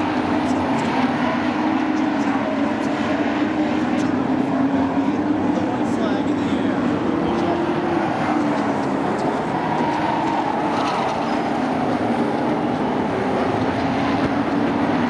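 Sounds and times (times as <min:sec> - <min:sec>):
racing truck engines droning: 0:00.0 - 0:15.0.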